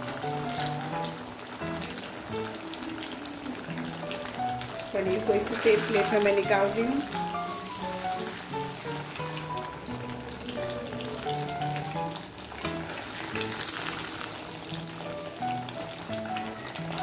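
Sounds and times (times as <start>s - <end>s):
background music: 0.0s - 17.0s
cheese cubes sizzling in oil: 0.0s - 17.0s.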